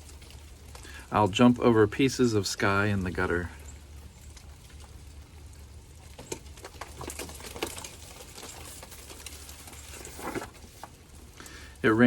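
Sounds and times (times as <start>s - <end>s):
rustle: 0.0s - 12.0s
steady low hum: 0.0s - 12.0s.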